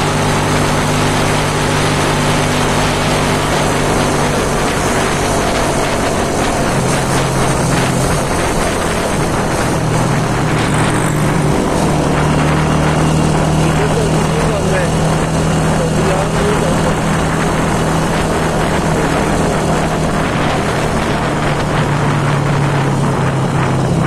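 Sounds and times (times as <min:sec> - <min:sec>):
motorcycle engine running: 0:00.0 - 0:24.0
wind and road rush: 0:00.0 - 0:24.0.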